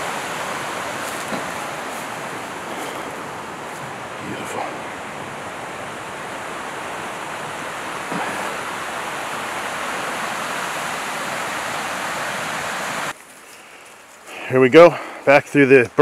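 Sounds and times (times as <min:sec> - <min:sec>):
brook rushing over rocks: 0:00.0 - 0:13.2.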